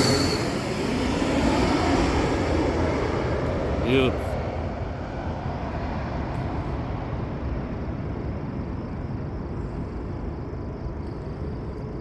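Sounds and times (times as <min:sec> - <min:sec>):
faint high jet whine: 0:00.0 - 0:12.0
jet airliner engine rumble: 0:00.0 - 0:12.0.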